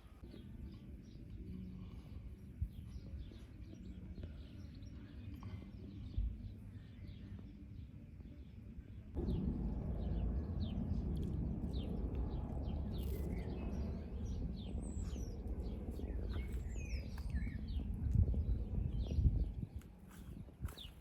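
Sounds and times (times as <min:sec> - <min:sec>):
songbirds chirping: 0:00.0 - 0:21.0
wind rumble on microphone: 0:00.0 - 0:21.0.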